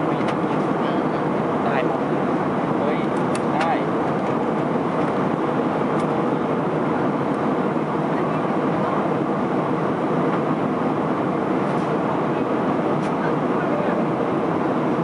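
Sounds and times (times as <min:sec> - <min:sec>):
airplane cabin engine rush: 0:00.0 - 0:15.0.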